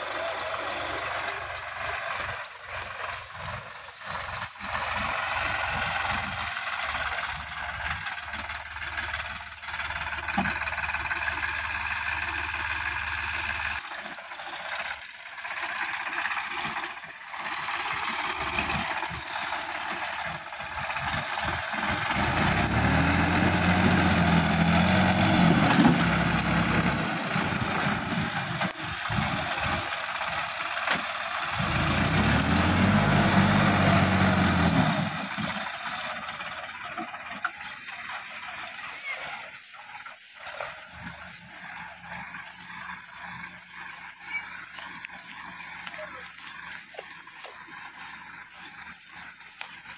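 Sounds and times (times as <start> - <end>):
tractor diesel engine labouring: 0.0 - 49.9.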